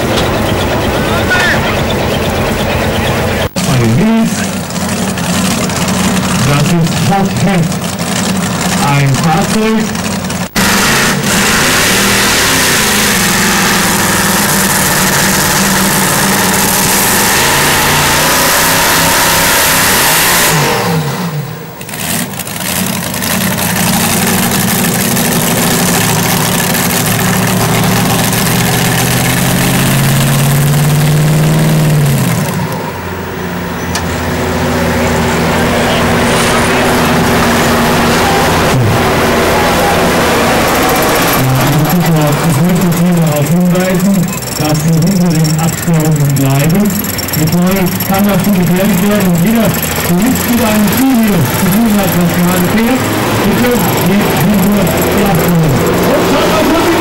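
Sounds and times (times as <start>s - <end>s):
tractor engine running hard: 0.0s - 57.0s.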